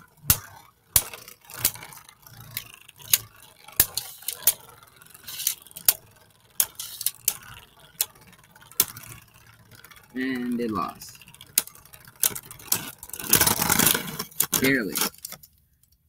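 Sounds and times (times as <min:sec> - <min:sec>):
scraping whir: 0:00.0 - 0:15.4
spinning tops clacking: 0:00.0 - 0:15.5.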